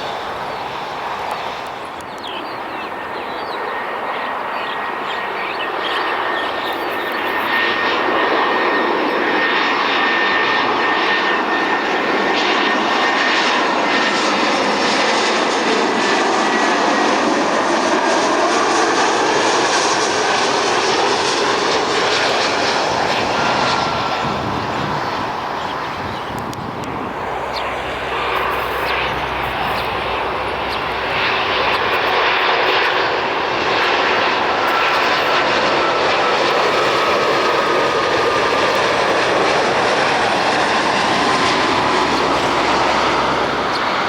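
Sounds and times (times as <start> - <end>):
jet airliner passing overhead: 0.0 - 44.0
thin engine whine: 0.0 - 44.0.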